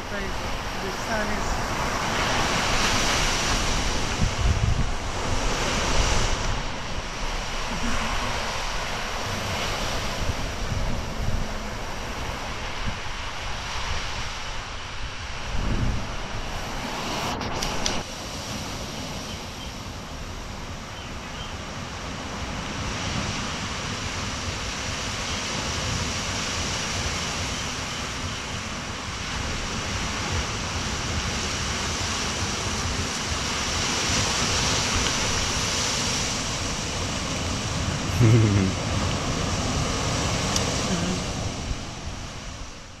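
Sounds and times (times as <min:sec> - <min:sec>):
ocean surf washing on beach: 0:00.0 - 0:43.0
wind on microphone: 0:00.0 - 0:43.0.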